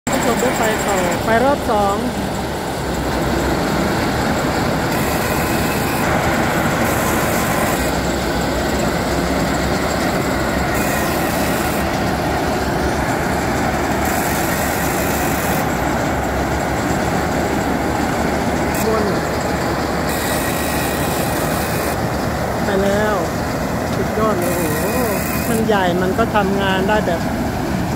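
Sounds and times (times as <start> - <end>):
combine harvester running: 0.0 - 27.9.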